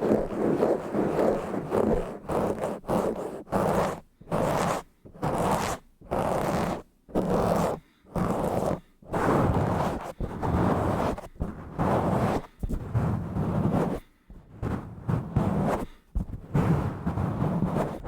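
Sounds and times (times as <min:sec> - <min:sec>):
scratching on a bare microphone: 0:00.0 - 0:18.0.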